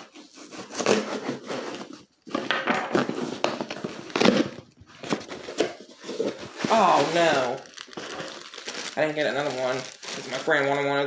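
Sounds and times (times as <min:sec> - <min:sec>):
plastic packaging crinkling: 0:01.8 - 0:11.0.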